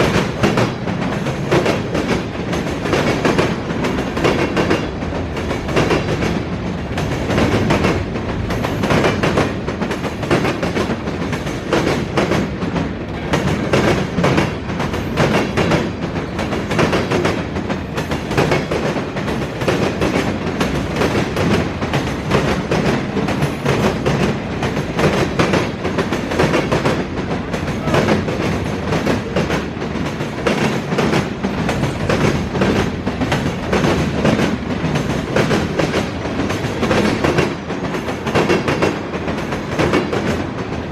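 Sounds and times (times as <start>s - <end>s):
freight train rumble: 0.0s - 40.9s
train wheels clacking over rail joints: 0.0s - 40.9s.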